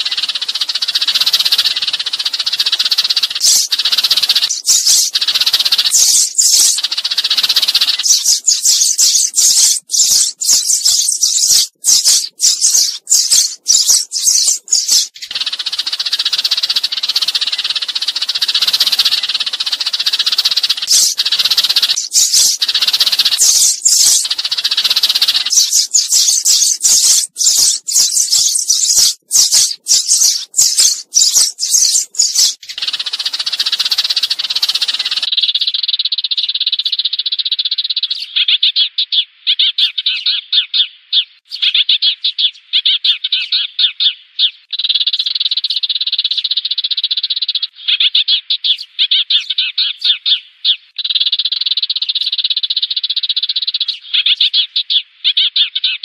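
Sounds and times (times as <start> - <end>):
sparrows chirping rapidly: 0.0 - 56.0.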